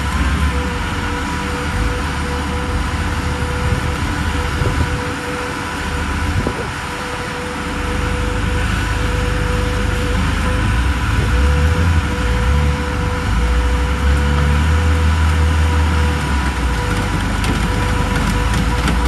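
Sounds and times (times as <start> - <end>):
engine and hydraulic pump whining: 0.0 - 19.0.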